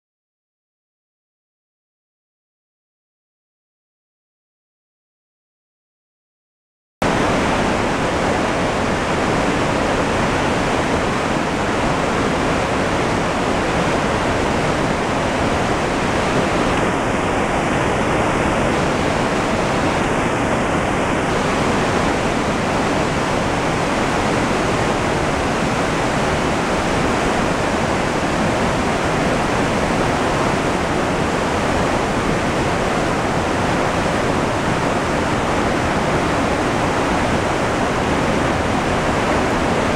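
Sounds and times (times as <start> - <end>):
water rushing over boulders: 7.0 - 39.9.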